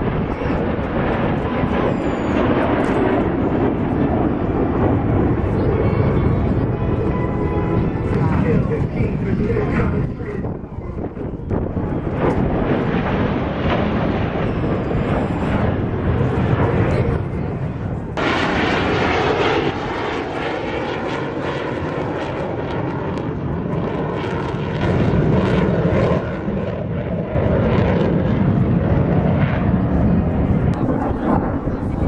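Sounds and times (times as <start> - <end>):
jet engine roaring: 0.0 - 32.0.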